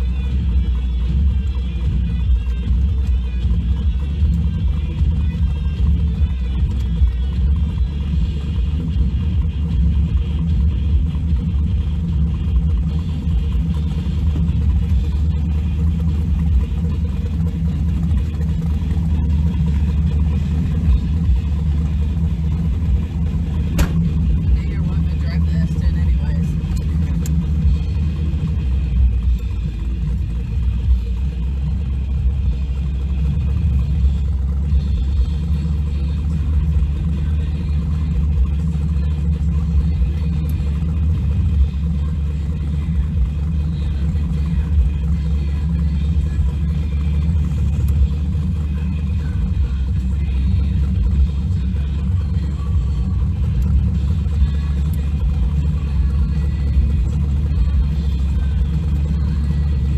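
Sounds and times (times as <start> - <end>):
truck engine deep rumble: 0.0 - 59.9.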